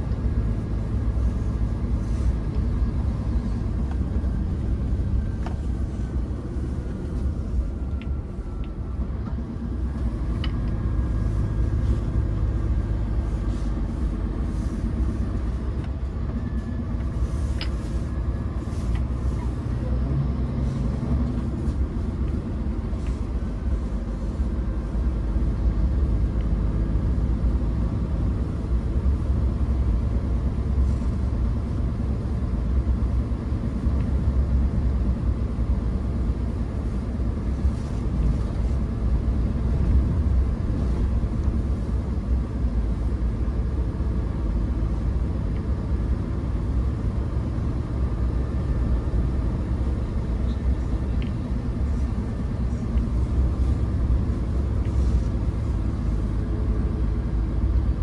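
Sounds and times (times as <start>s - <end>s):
truck diesel engine rumble: 0.0s - 58.0s.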